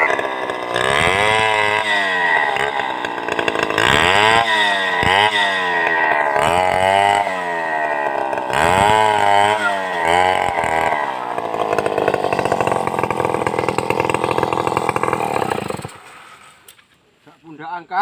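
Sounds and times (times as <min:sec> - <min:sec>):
chainsaw cutting wood: 0:00.0 - 0:16.9.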